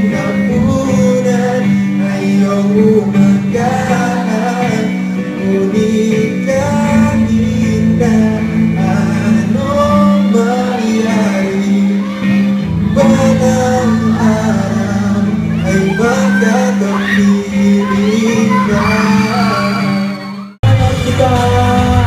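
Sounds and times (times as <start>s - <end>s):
electric guitar accompaniment: 0.0s - 22.0s
man singing into a microphone: 0.0s - 22.0s.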